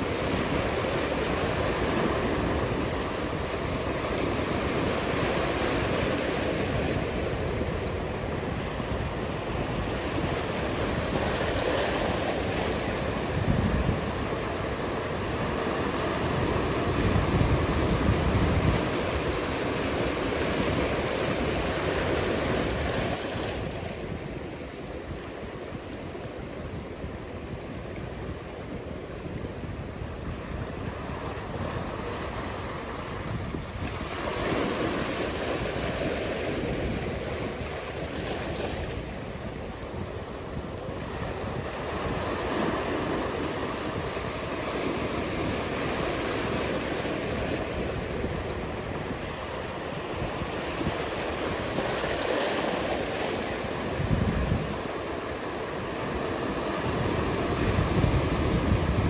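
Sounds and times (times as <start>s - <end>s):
ocean waves breaking: 0.0s - 59.0s
wind: 0.0s - 59.0s.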